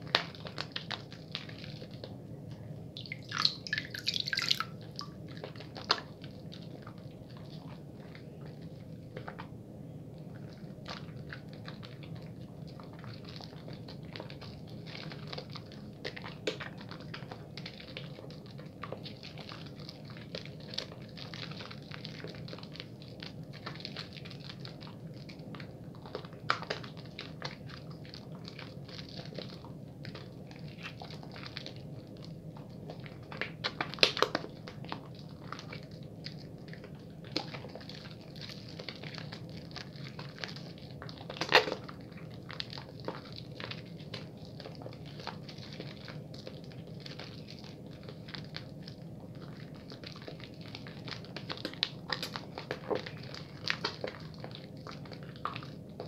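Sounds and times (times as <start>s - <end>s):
wet soap lathering squishing: 0.0s - 56.0s.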